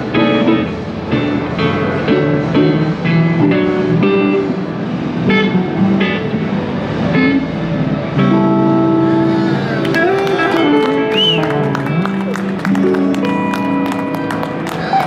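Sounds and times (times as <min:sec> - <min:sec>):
electric guitars playing blues licks: 0:00.0 - 0:15.0.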